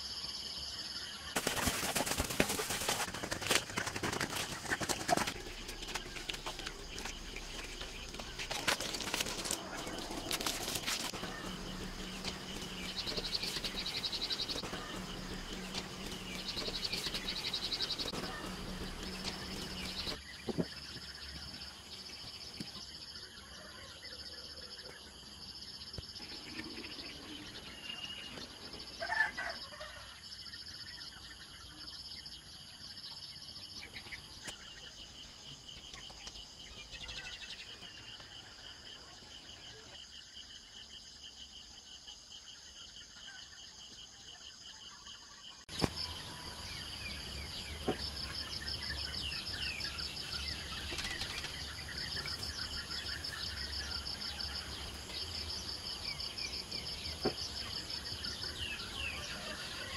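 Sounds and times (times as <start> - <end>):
insects chirping in trills: 0.0 - 59.9.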